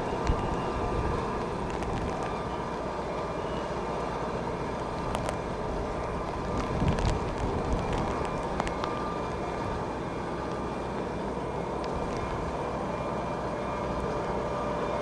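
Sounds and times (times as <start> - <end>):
wind buffeting microphone: 0.0 - 13.2
distant jet engines rumbling: 0.0 - 15.0.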